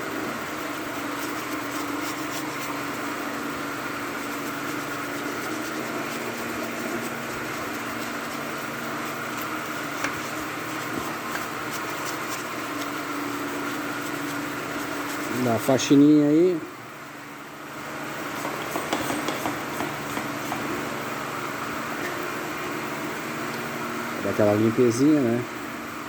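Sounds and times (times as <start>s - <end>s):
machine humming with hiss: 0.0s - 26.0s.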